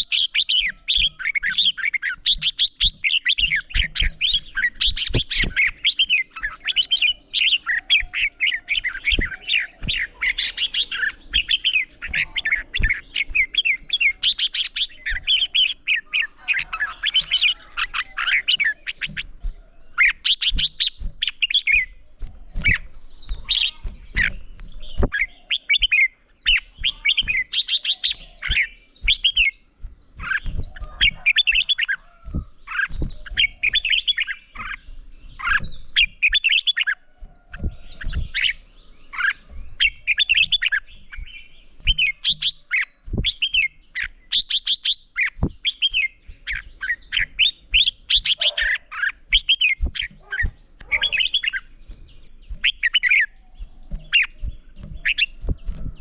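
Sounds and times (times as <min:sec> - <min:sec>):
bulbuls singing whistled phrases: 0:00.0 - 0:56.0.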